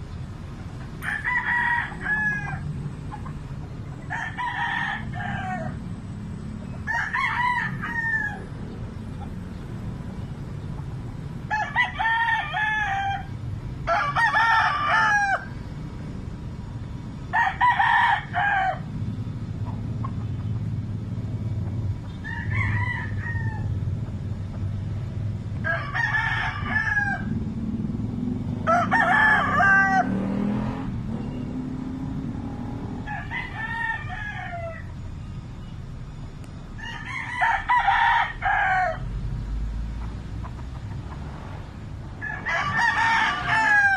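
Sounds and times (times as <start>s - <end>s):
low steady rumble: 0.0s - 30.1s, 30.8s - 43.9s
roosters crowing: 0.6s - 16.3s, 16.9s - 43.9s.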